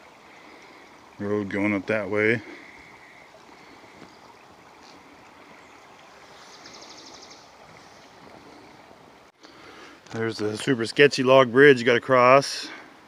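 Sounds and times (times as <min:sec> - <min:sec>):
creek flowing: 0:00.0 - 0:13.0.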